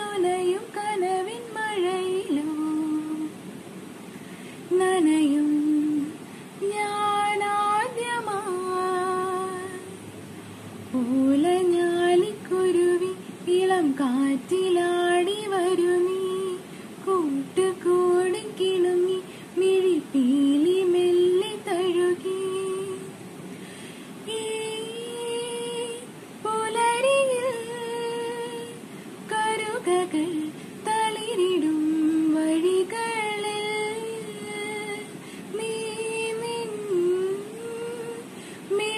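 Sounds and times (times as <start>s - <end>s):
woman singing unaccompanied: 0.0s - 3.6s, 4.6s - 10.2s, 10.8s - 23.2s, 24.1s - 38.9s.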